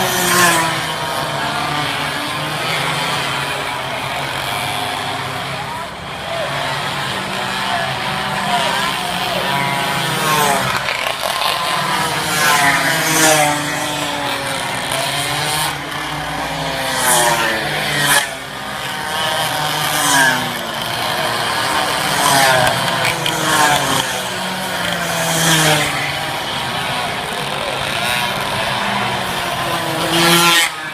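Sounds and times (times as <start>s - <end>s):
minibike engines revving high: 0.0s - 30.9s.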